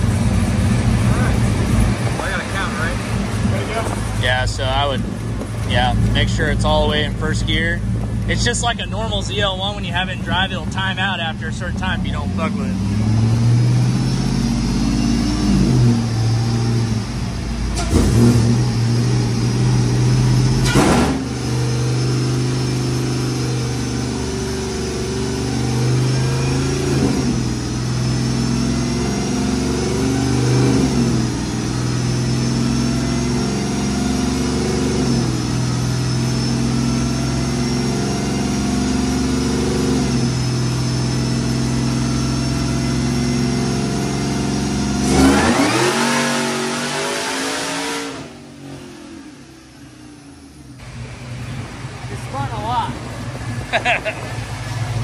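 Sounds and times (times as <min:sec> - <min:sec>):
engine running on a dyno: 0:00.0 - 0:55.0
supercharger whine: 0:00.0 - 0:55.0.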